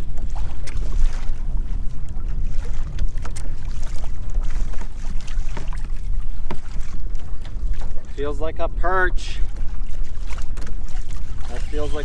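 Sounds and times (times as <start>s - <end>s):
light ticks and slaps from kayak: 0.0s - 8.2s, 9.3s - 12.0s
choppy water: 0.0s - 12.0s
wind buffeting the microphone: 0.0s - 12.0s.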